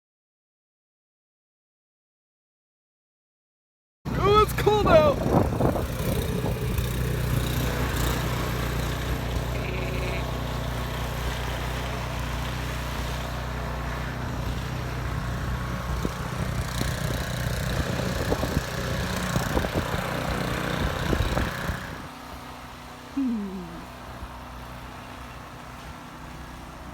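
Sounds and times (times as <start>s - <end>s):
engine droning: 4.1s - 26.9s.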